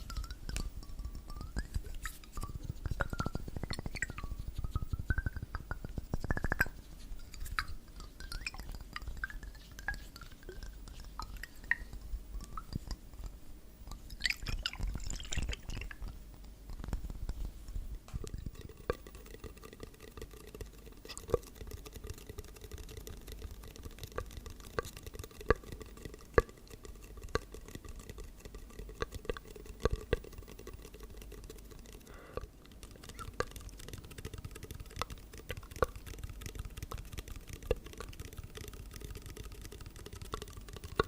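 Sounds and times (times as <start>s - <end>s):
faint low hum: 0.0s - 41.0s
light ticks or drips: 0.0s - 41.0s.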